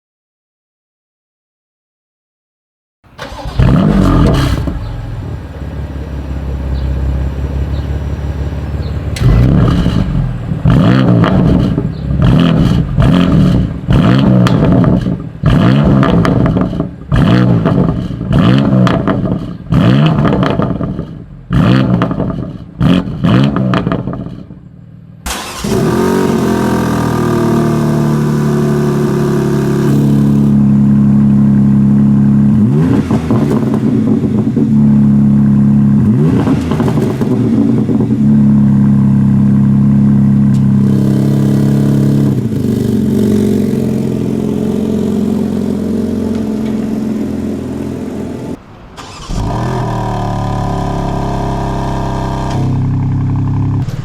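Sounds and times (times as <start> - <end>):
car engine starting and revving: 3.1 - 24.5, 25.2 - 54.0
engine running steadily: 3.2 - 23.2, 24.0 - 54.0.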